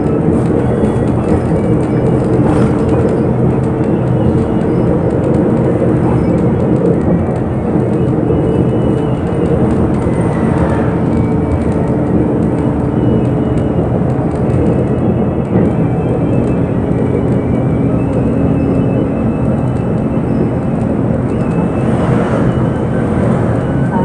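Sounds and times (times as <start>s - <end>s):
bus engine and road drone: 0.0s - 24.0s.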